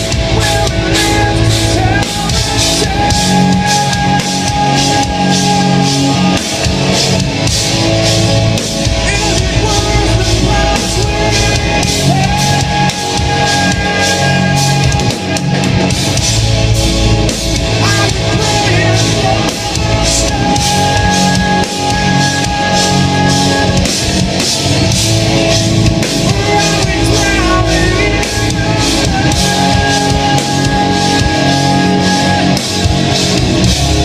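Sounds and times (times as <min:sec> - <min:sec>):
live metal band playing: 0:00.0 - 0:34.0
person singing: 0:00.0 - 0:34.0.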